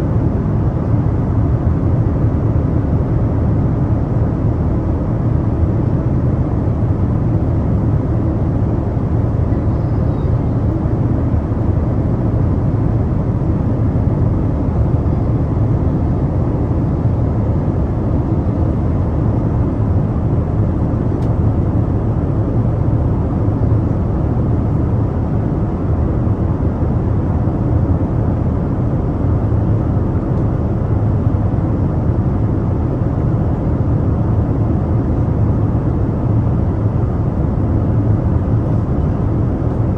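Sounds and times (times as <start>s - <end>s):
airliner cabin engine rush: 0.0s - 39.9s.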